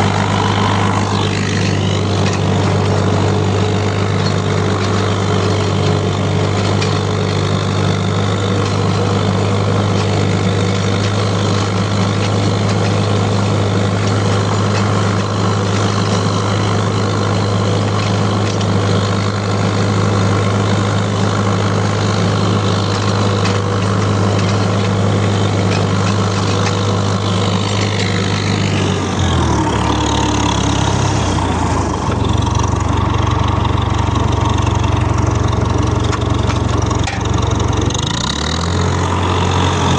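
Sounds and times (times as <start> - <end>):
tractor engine humming: 0.0 - 39.9.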